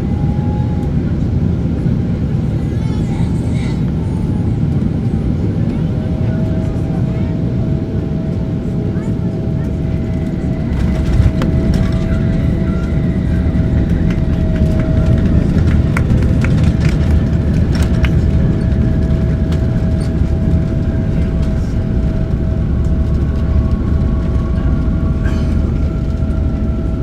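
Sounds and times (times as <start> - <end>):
airplane cabin low rumble: 0.0 - 27.0.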